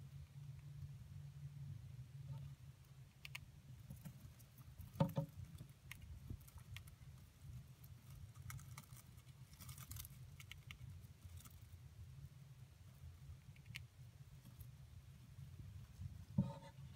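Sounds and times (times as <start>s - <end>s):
hamster gnawing chew toy: 0.0s - 16.9s
low steady hum: 0.0s - 16.9s.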